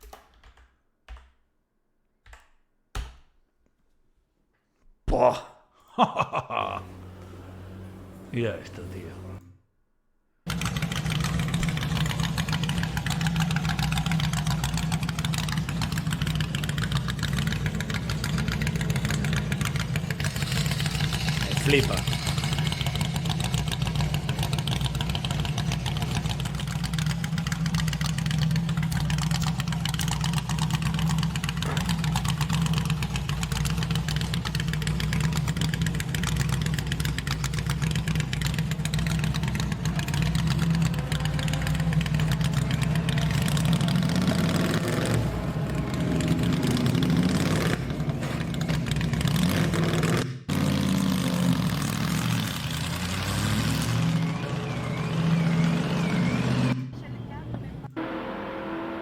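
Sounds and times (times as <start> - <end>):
different engine sound: 6.0 - 9.6, 10.5 - 59.0
car engine idling: 6.1 - 9.5, 10.5 - 49.7, 51.6 - 59.0.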